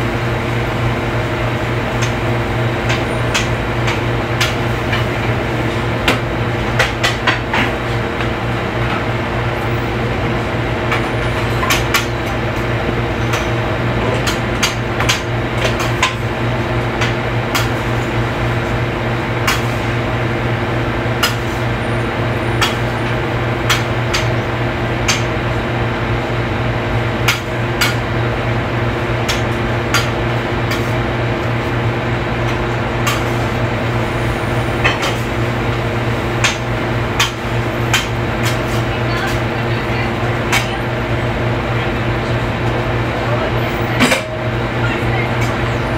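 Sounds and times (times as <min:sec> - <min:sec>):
steady mechanical hum: 0:00.0 - 0:45.9.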